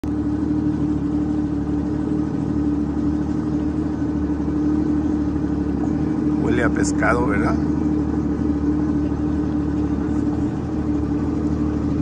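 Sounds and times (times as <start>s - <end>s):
watercraft engine droning: 0.0s - 12.0s.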